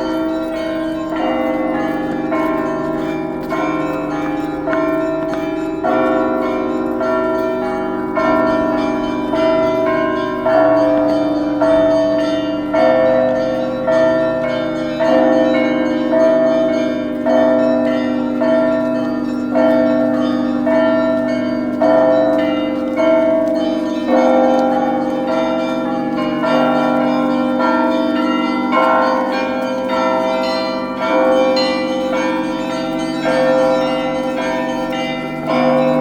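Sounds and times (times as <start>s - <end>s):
church bells struck in a pattern: 0.0s - 36.0s.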